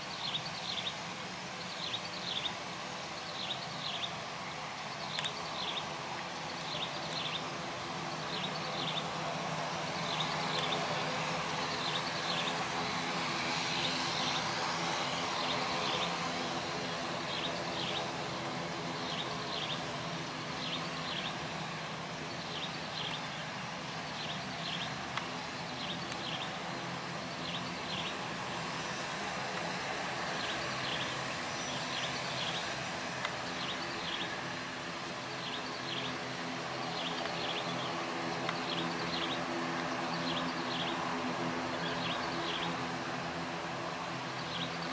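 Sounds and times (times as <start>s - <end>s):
jet engines humming: 0.0s - 44.9s.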